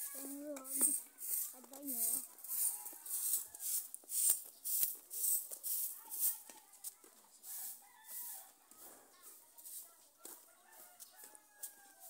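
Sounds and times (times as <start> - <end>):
footsteps scuffing on concrete: 0.7 - 12.0.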